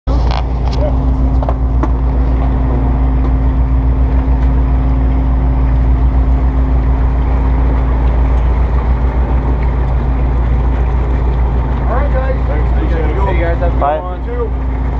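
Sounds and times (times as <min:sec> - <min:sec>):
boat engines idling: 0:00.1 - 0:14.9.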